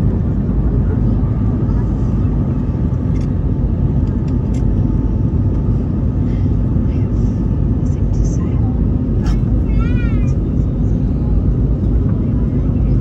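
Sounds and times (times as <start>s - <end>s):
jet engine and airflow rumble: 0.0s - 13.0s.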